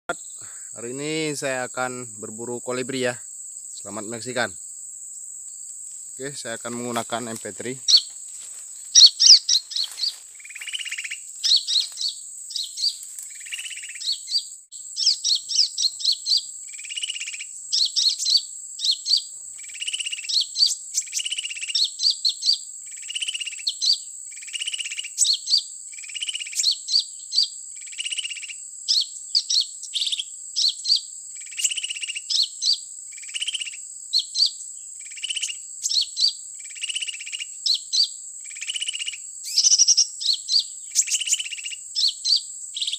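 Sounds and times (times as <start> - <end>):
high insect drone: 0.1 - 42.9
recorded bird chirping: 0.1 - 42.9.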